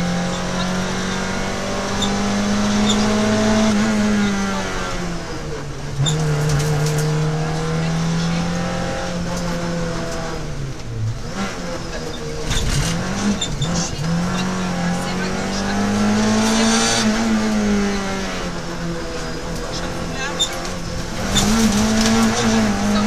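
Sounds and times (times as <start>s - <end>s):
car engine revving inside cabin: 0.0s - 23.0s.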